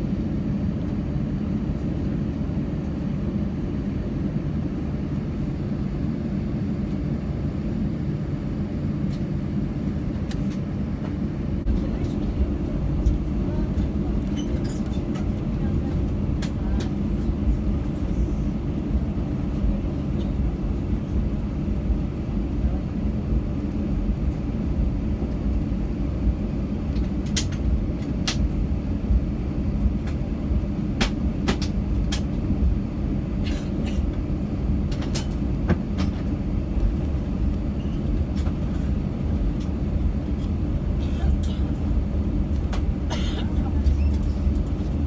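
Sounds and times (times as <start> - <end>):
aircraft engines idling: 0.0 - 45.0.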